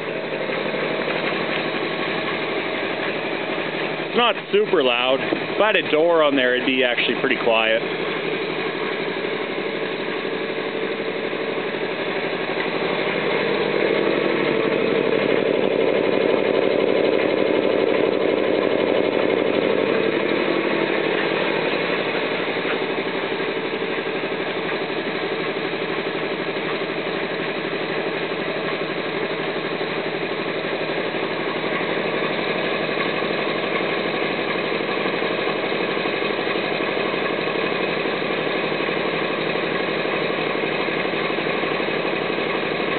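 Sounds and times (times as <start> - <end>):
air compressor running: 0.0 - 42.9.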